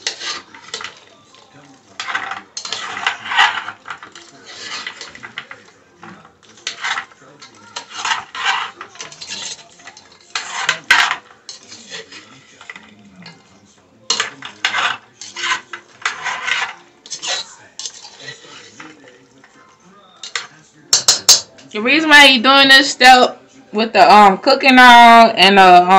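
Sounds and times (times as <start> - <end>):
spoon scraping a cooking pot: 0.0 - 22.1.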